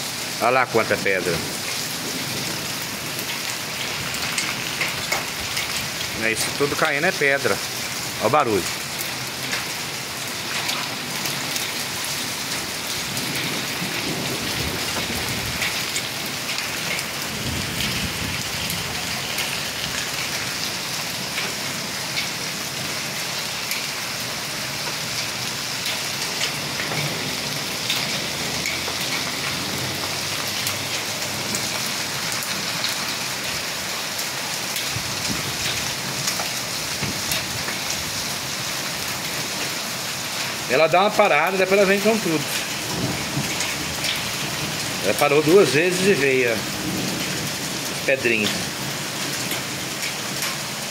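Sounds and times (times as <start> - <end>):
hail and rain on concrete: 0.0 - 50.9
hailstones ticking: 0.0 - 50.9.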